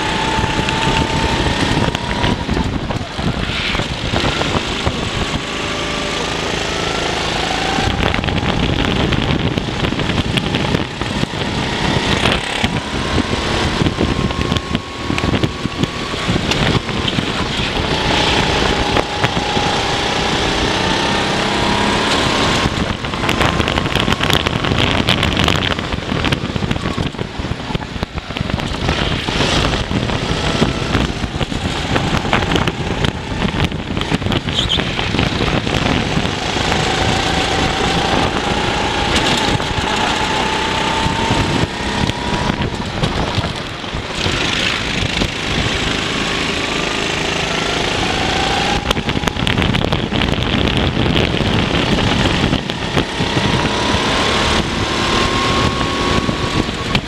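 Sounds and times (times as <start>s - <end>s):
kart engine revving: 0.0s - 57.0s
wind rushing on microphone: 0.0s - 57.0s.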